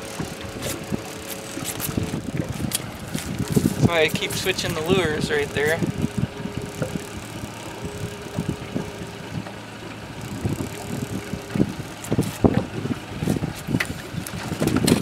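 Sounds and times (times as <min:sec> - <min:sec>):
boat motor running: 0:00.0 - 0:15.0
wind on microphone: 0:00.0 - 0:15.0.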